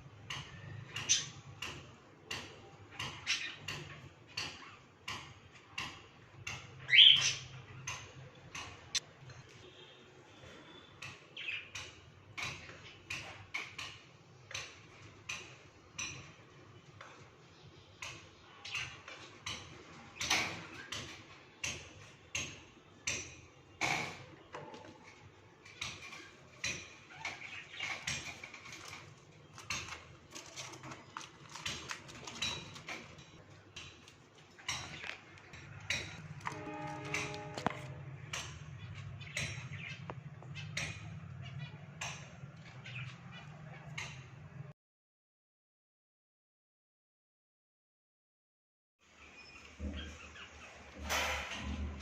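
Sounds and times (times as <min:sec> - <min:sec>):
parrots chirping and clicking: 0:00.0 - 0:09.6, 0:10.5 - 0:44.7.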